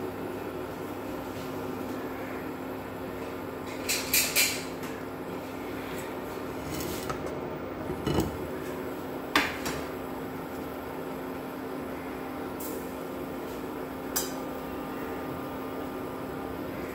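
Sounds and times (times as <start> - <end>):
induction cooktop humming: 0.0 - 16.9.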